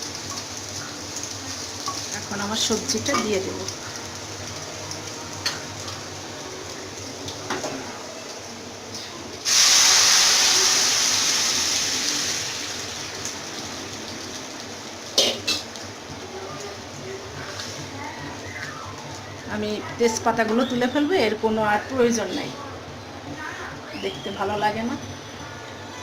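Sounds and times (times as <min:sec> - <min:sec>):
oil sizzling loudly: 0:00.0 - 0:26.0.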